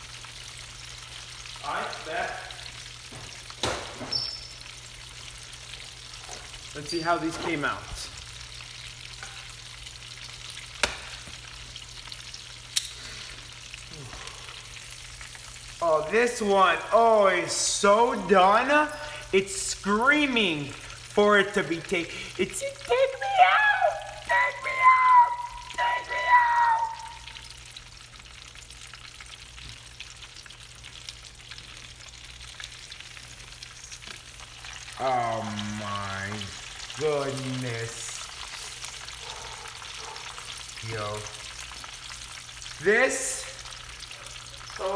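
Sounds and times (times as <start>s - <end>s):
chicken frying in hot oil: 0.0s - 44.9s.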